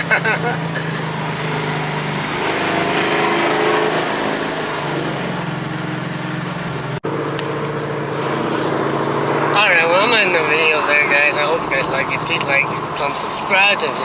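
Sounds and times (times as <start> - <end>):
car engine droning while driving: 0.0 - 14.0.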